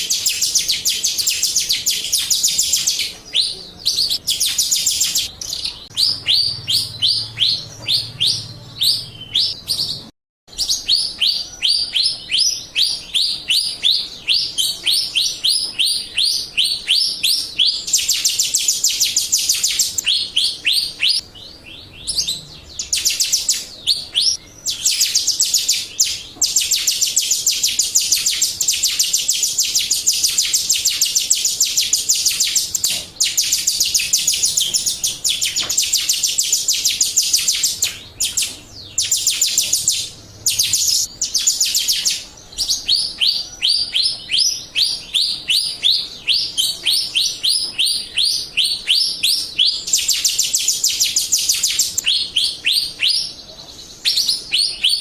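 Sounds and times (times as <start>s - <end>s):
starling chirping and trilling: 0.0s - 55.0s.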